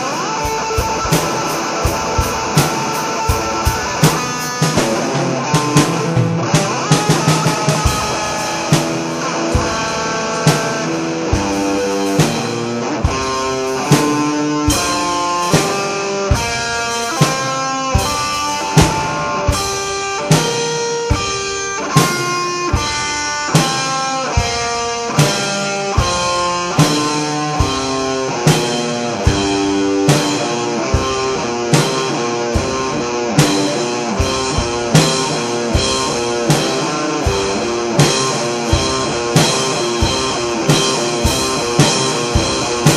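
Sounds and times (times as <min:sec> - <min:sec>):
drum kit beat: 0:00.0 - 0:42.9
rock guitar melody: 0:00.0 - 0:42.9.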